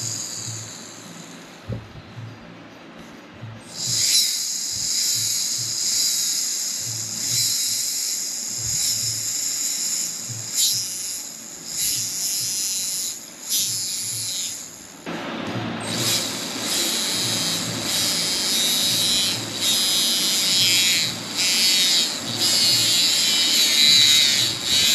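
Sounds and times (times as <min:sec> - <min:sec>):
music with low beat: 0:00.0 - 0:24.9
steady high hiss: 0:00.0 - 0:24.9.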